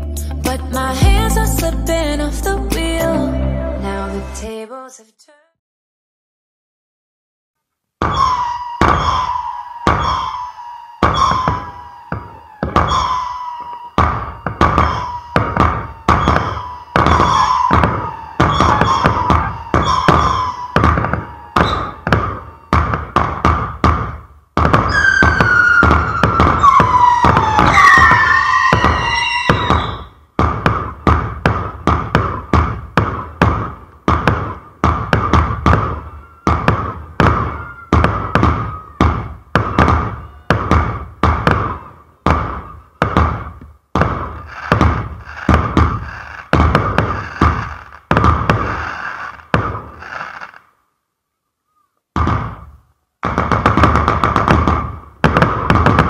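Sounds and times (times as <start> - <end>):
firework bangs: 8.0 - 50.8, 52.1 - 56.0
whistling firework shots: 8.0 - 50.8, 52.2 - 56.0.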